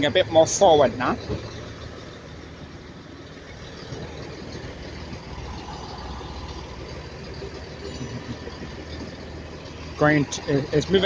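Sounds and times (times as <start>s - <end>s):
train diesel engine rumbling: 0.0s - 11.0s.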